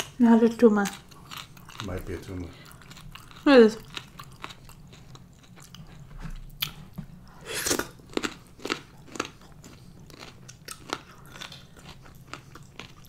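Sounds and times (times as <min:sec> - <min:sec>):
person chewing crunchy food: 0:00.8 - 0:13.0.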